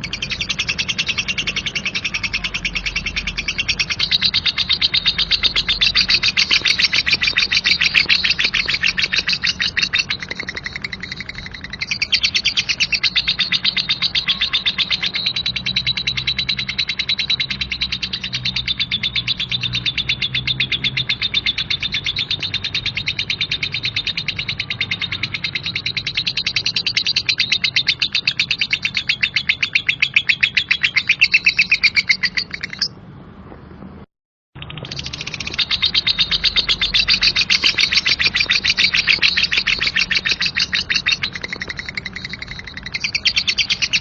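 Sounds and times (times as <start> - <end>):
lovebird chattering: 0.0 - 33.0, 34.6 - 44.0.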